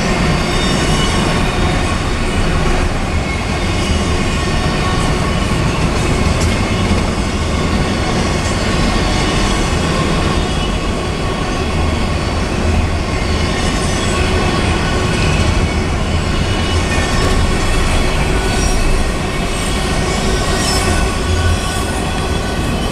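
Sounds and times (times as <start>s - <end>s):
train wheels running on rails: 0.0s - 22.9s.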